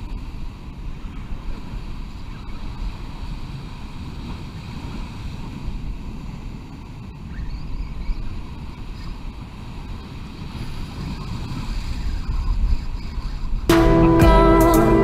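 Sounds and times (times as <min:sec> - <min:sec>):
wind buffeting microphone: 0:00.0 - 0:13.7.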